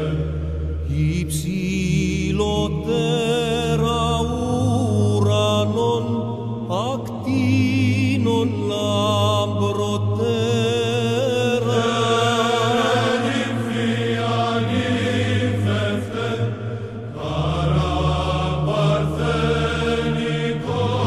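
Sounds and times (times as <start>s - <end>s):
low held drone: 0.0s - 21.0s
voice singing ornamented chant: 0.0s - 21.0s.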